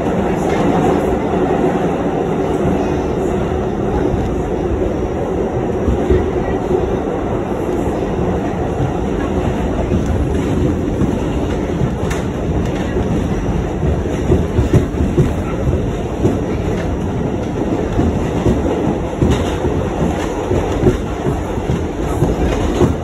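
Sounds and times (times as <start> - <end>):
subway car rumbling: 0.0 - 23.0.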